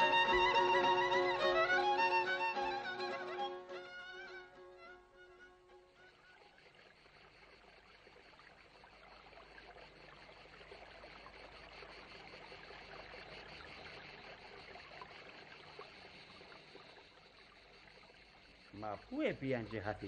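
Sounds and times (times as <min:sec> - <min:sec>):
faint running water: 0:00.0 - 0:20.0.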